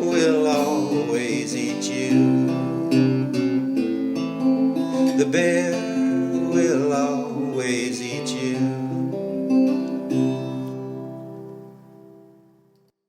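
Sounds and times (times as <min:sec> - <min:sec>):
person singing: 0:00.0 - 0:10.7
acoustic guitar: 0:00.0 - 0:12.9.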